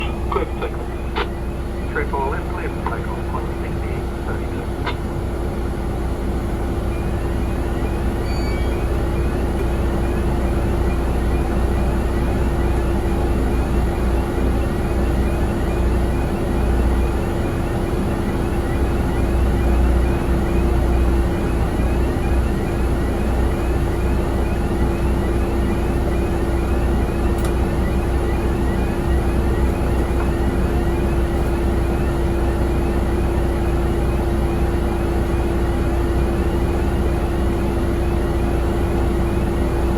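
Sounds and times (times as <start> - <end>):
engine drone: 0.0 - 39.9.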